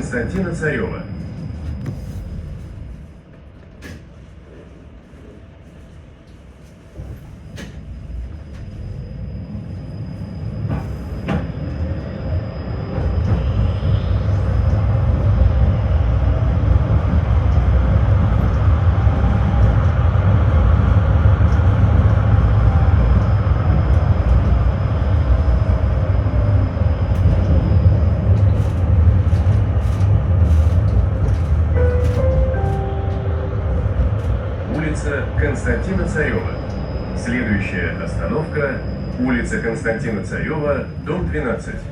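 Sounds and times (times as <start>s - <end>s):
tram rumbling on rails: 0.0s - 41.9s.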